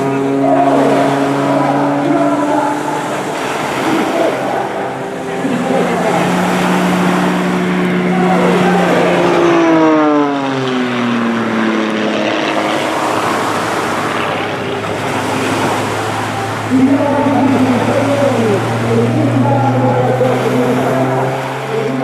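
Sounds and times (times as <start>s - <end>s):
propeller plane flying past: 0.0s - 22.0s.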